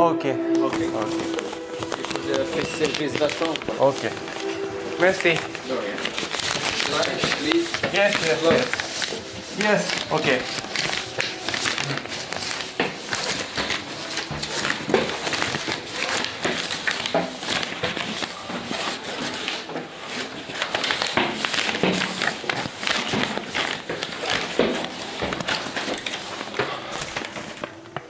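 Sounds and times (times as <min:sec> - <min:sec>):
footsteps climbing stairs: 0:00.7 - 0:28.0.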